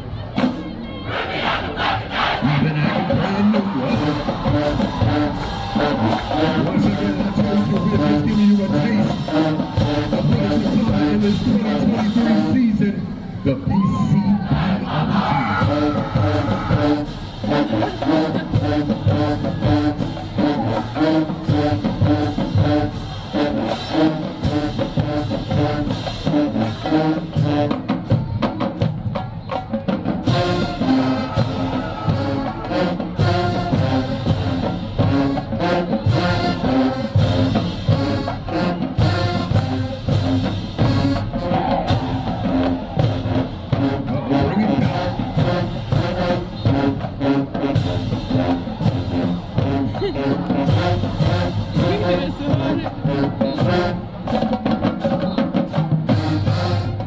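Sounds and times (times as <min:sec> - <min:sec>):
marching band brass: 0:00.0 - 0:57.0
drums and cymbals: 0:01.9 - 0:57.0.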